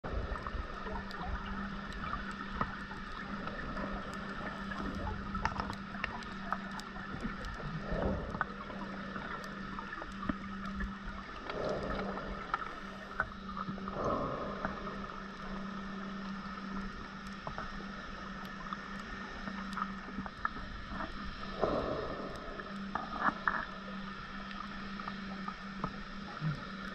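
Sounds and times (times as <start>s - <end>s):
scuba regulator bubbles: 0.0s - 26.9s
steady low hum: 0.0s - 26.9s
faint clicks: 0.2s - 26.9s.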